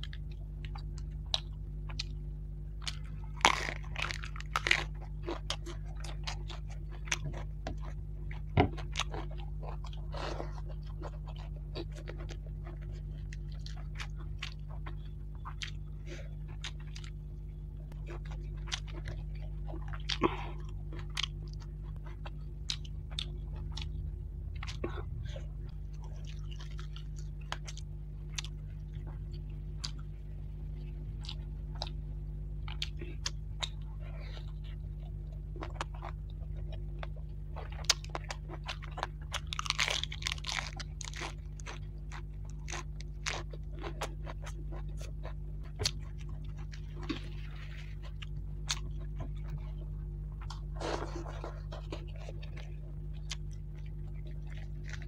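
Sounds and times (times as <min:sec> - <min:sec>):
chewing and crunching fish: 0:00.0 - 0:55.0
low steady hum: 0:00.0 - 0:55.0.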